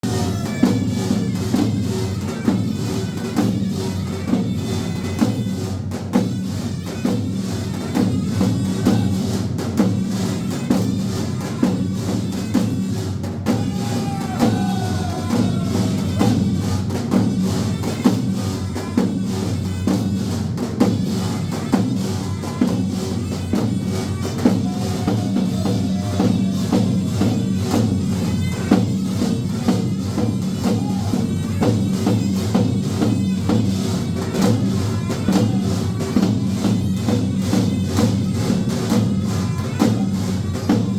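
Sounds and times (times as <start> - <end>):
folk dance music: 0.0 - 5.5, 9.9 - 40.9
steady drum beat: 0.0 - 40.9.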